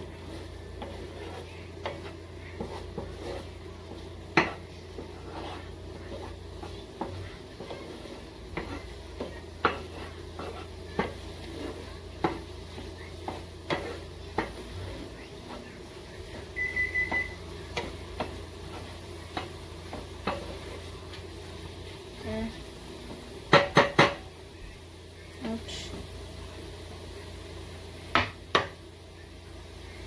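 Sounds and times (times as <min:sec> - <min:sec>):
wooden spatula scraping a pan: 0:00.0 - 0:24.2.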